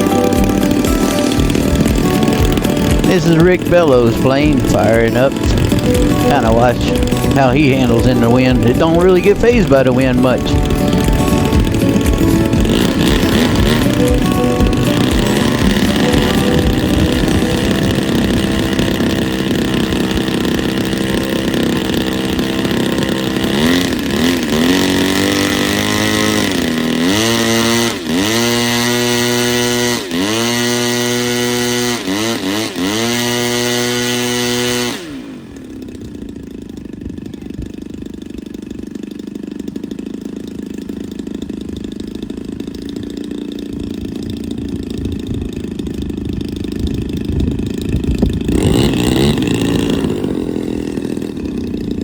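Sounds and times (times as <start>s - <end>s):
model plane engine revving: 0.0s - 52.0s.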